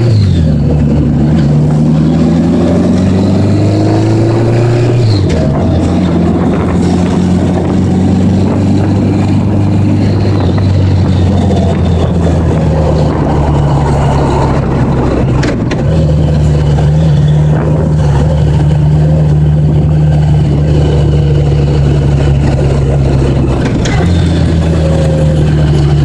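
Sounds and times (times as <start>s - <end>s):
motorcycle engine running: 0.0s - 26.0s
wind noise: 0.0s - 26.0s.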